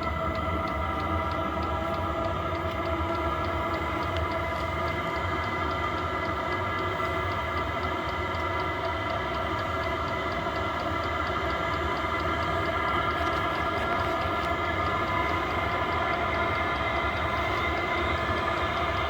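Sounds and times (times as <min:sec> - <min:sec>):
heater fan whine: 0:00.0 - 0:19.0.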